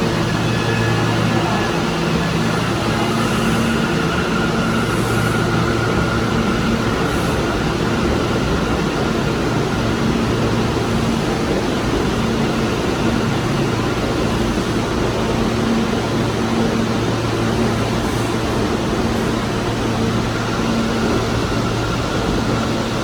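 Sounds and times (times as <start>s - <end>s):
train wheels rumbling on rail: 0.0s - 23.0s
train whine: 0.0s - 23.0s.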